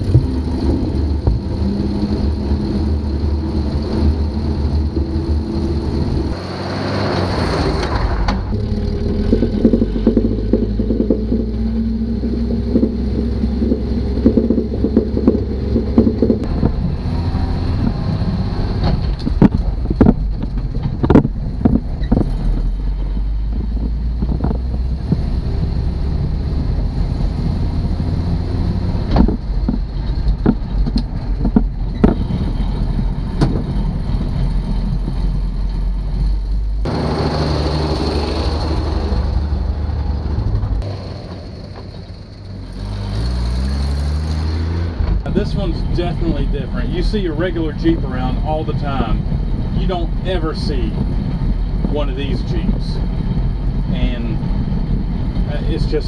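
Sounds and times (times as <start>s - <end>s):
body and cab rattling: 0.0s - 56.0s
truck engine under load: 0.0s - 56.0s.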